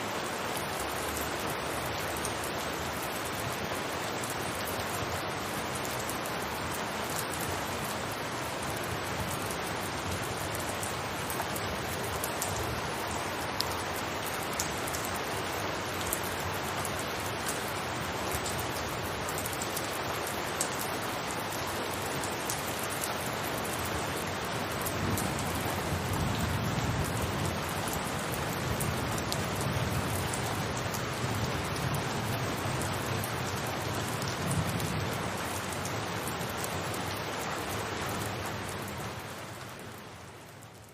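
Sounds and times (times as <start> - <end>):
rain falling on a rooftop: 0.0 - 40.9.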